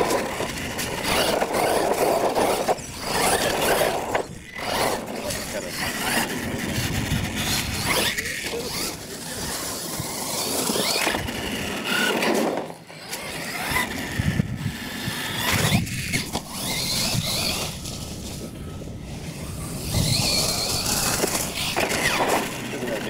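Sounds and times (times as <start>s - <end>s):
electric motor and gears whining: 0.0s - 23.0s
tyres rolling on ground: 0.0s - 23.0s.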